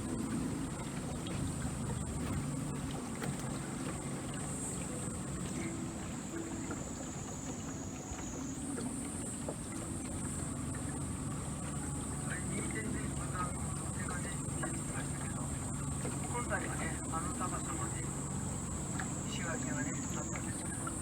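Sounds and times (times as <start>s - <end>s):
boat motor rumbling: 0.0s - 21.0s
water noise: 0.0s - 21.0s.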